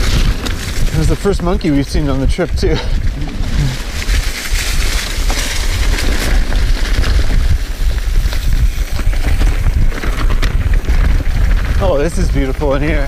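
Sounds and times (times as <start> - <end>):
bike clicks and rattles: 0.0 - 13.0
tyres hissing on leaves and dirt: 0.0 - 13.0
wind rumble on microphone: 0.0 - 13.0.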